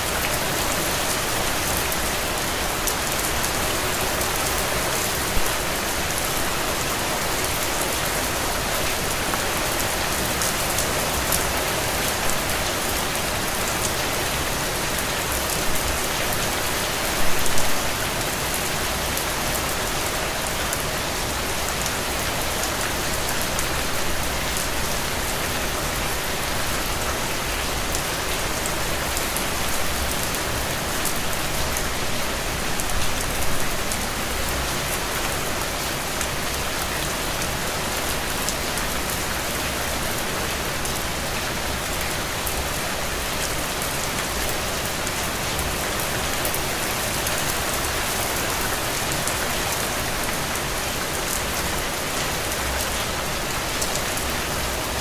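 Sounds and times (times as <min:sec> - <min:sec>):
heavy rain on ground and puddles: 0:00.0 - 0:55.0.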